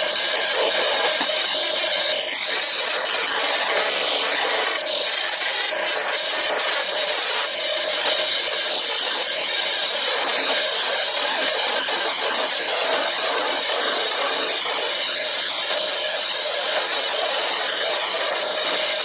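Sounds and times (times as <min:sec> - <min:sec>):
chisel scraping spinning wood: 0:00.0 - 0:19.0
wood lathe humming: 0:00.0 - 0:19.0.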